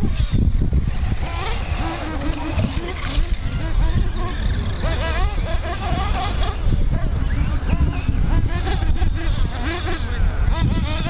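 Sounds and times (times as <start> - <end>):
small nitro engines buzzing and revving: 0.0 - 11.0
wind rumble on microphone: 0.0 - 11.0.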